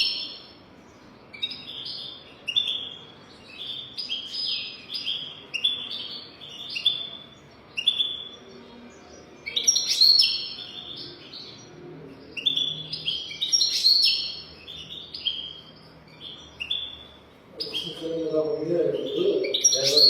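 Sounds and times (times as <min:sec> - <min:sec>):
goldfinch singing: 0:00.0 - 0:20.0.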